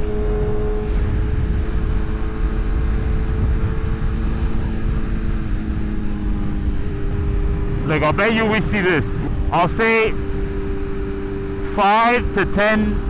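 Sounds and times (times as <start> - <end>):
motorcycle engine cruising: 0.0 - 13.0
wind rumble on microphone: 0.0 - 13.0.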